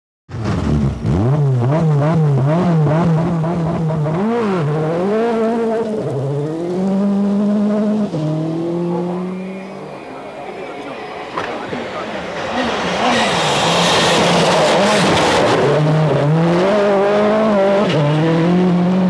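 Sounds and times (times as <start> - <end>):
rally car engine revving: 0.3 - 19.0.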